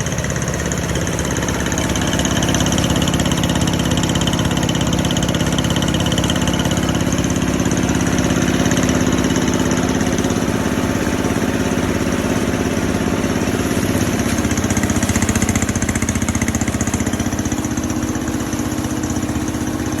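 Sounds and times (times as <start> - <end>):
rice mill machine droning: 0.0 - 20.0.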